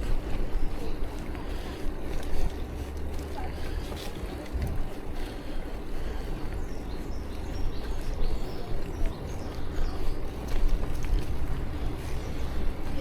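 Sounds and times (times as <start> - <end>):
bicycle low rumble: 0.0 - 13.0
wind buffeting microphone: 0.0 - 13.0.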